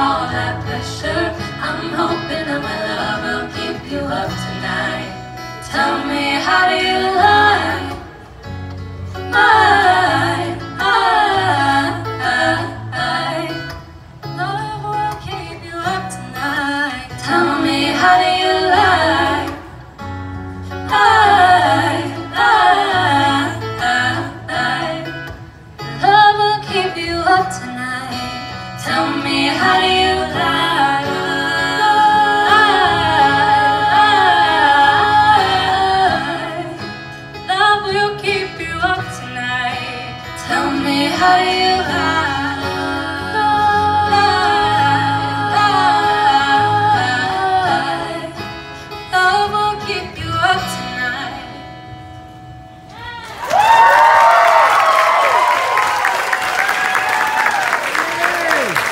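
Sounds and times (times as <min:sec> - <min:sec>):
women singing a cappella harmony: 0:00.0 - 0:08.3, 0:09.1 - 0:52.1.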